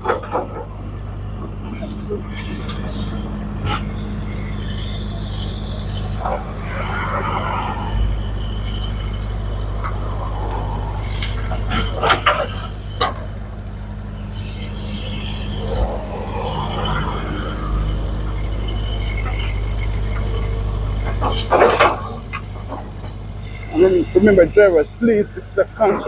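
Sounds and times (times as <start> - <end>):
heavy vehicle engine running: 0.0 - 26.0.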